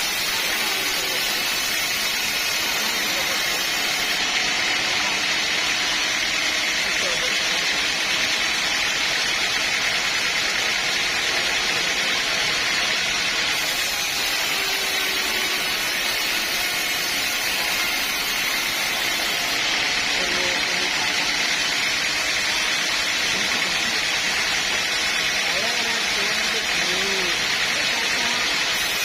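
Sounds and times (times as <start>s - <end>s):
sawmill saw running: 0.0s - 29.0s.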